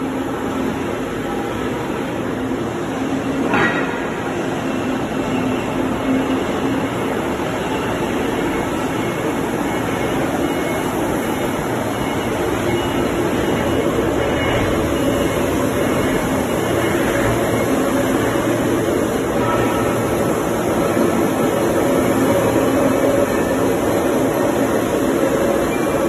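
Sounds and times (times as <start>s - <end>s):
industrial machinery running: 0.0s - 26.0s.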